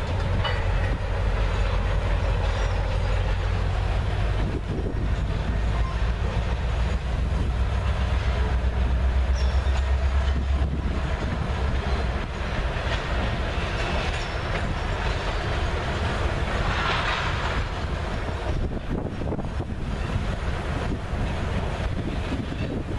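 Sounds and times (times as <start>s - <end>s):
freight train rumbling past: 0.0s - 22.9s
wheels clicking over rail joints: 0.0s - 22.9s.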